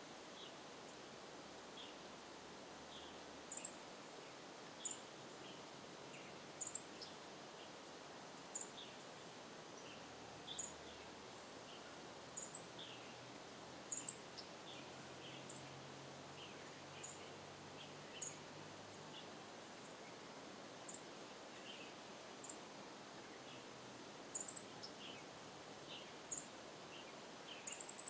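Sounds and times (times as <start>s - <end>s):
faint outdoor hiss: 0.0s - 28.0s.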